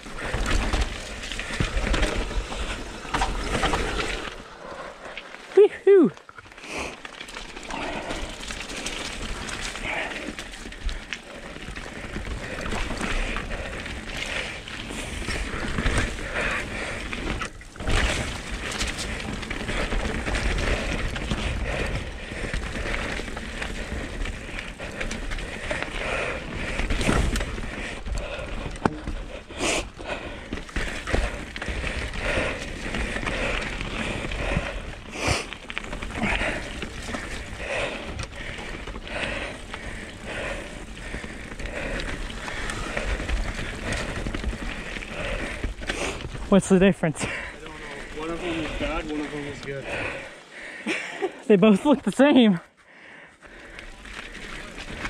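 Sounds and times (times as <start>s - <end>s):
bike tyres rumbling over dirt: 0.0s - 55.0s.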